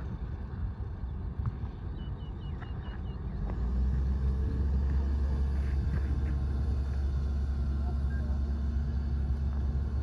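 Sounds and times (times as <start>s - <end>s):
bulldozer diesel engine rumbling: 0.0s - 10.0s.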